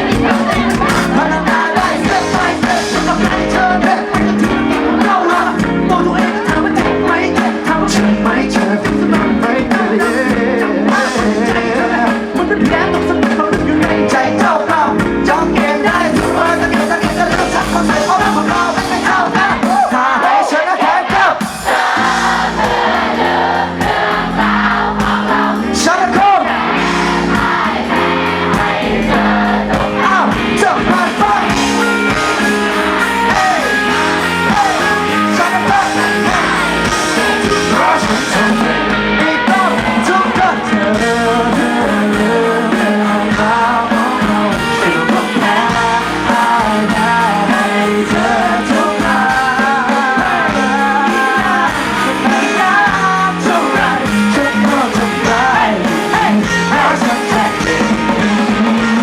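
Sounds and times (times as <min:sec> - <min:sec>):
bass guitar: 0:00.0 - 0:20.1, 0:21.1 - 0:59.0
person singing: 0:00.0 - 0:21.8, 0:25.6 - 0:59.0
drums: 0:00.0 - 0:59.0
guitars: 0:00.0 - 0:59.0.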